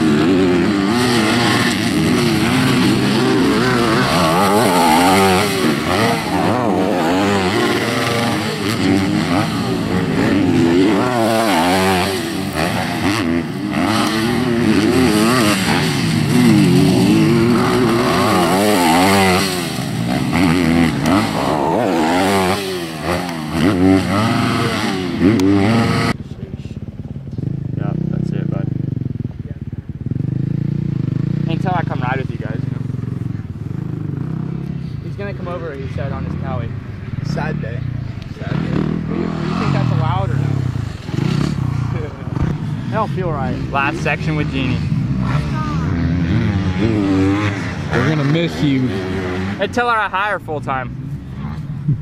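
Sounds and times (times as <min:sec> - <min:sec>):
motocross bikes revving: 0:00.0 - 0:52.0.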